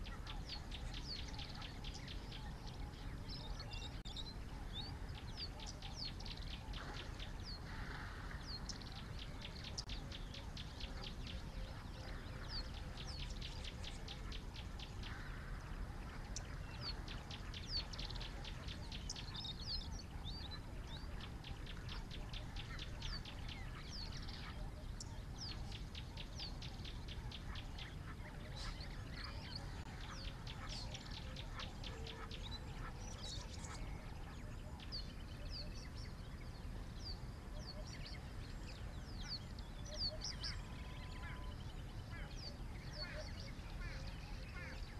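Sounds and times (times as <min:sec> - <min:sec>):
birds chirping and whistling: 0:00.0 - 0:07.7, 0:08.4 - 0:44.9.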